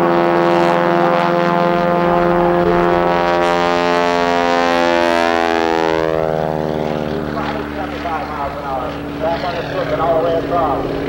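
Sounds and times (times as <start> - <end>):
propeller plane engine overhead: 0.0 - 11.0.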